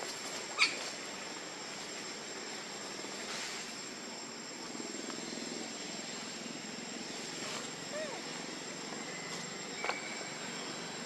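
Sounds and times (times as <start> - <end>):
insect buzz: 0.0 - 11.0.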